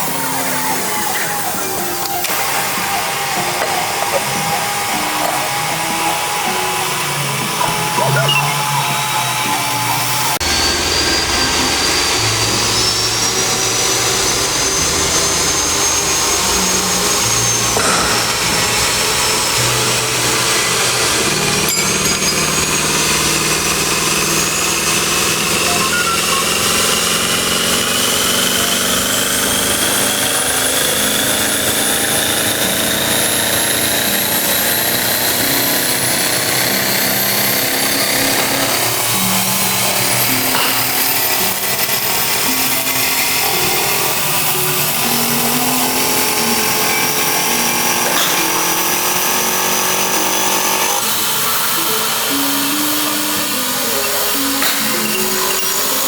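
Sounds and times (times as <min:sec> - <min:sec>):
power tool running on metal: 0:00.0 - 0:56.0.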